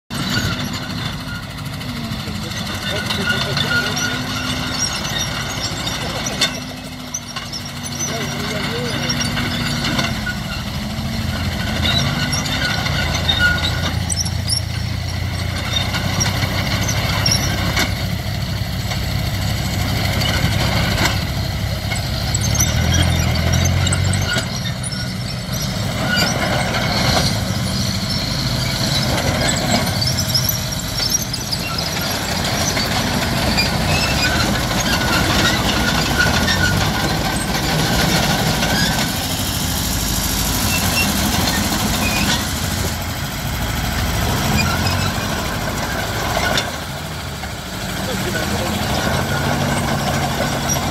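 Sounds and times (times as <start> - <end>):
tank engine running: 0.1 - 50.9
tracks squealing and clanking: 0.1 - 50.9.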